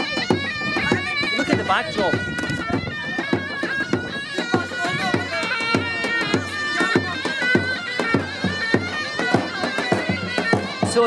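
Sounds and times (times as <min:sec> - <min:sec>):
reedy pipe melody: 0:00.0 - 0:11.0.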